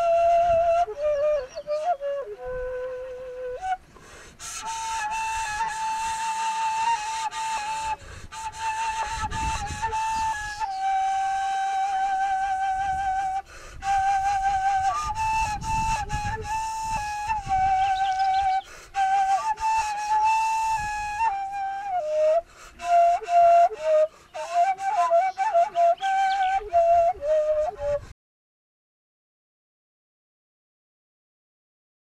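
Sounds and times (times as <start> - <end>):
solo flute-like woodwind melody: 0.0 - 28.2.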